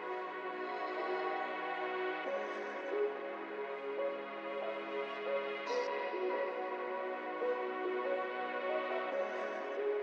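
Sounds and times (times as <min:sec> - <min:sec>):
slow ambient synth music: 0:00.0 - 0:10.0.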